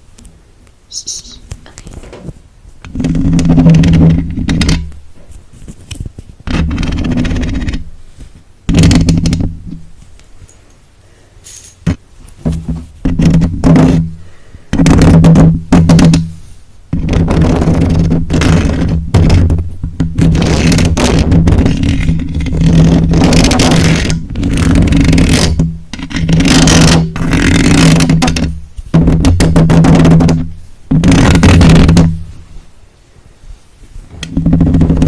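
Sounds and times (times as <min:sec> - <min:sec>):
objects scratching against microphone: 0:01.2 - 0:10.6, 0:11.5 - 0:32.7, 0:33.5 - 0:35.0.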